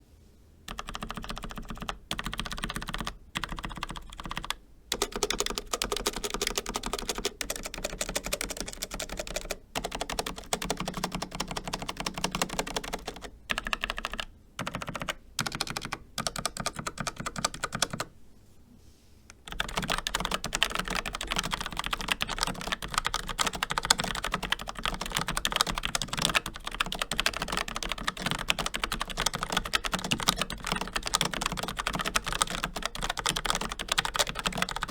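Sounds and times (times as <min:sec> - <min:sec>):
fast mechanical keyboard typing: 0:00.7 - 0:18.1, 0:19.3 - 0:34.9.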